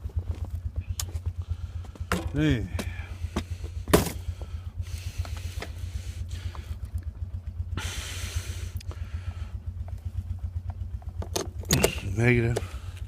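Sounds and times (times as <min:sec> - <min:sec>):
atv engines idling: 0:00.0 - 0:13.0.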